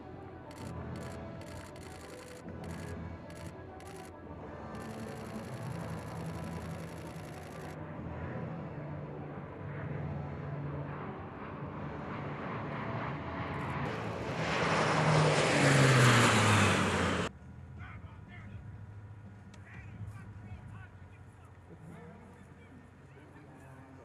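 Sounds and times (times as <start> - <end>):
turboprop aircraft flying by: 0.0 - 24.0.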